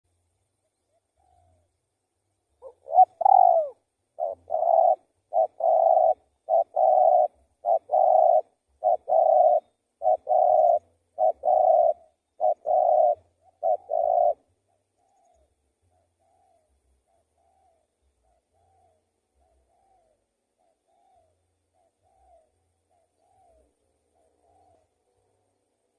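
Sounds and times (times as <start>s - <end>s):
dove cooing: 0.9s - 1.7s, 2.6s - 25.0s.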